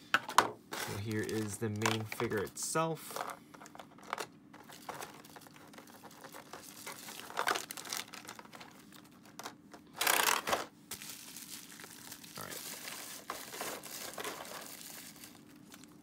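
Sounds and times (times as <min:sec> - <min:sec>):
plastic packaging crinkling: 0:00.8 - 0:02.5, 0:03.2 - 0:16.0.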